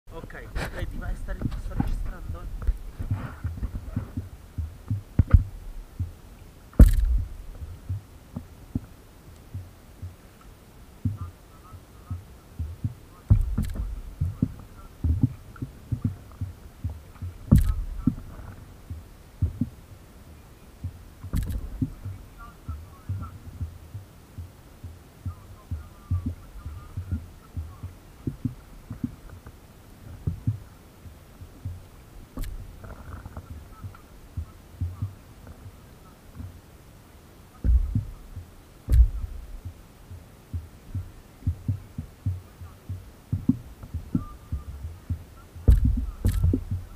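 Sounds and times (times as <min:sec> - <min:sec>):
water slapping against paddleboard: 0:00.5 - 0:20.1, 0:20.8 - 0:36.6, 0:37.6 - 0:46.9.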